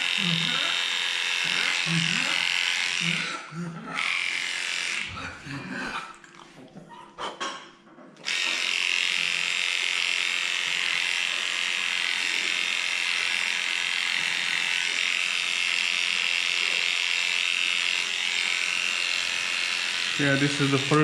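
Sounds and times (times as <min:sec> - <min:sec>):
electric clippers buzzing: 0:00.0 - 0:05.2, 0:08.2 - 0:21.0.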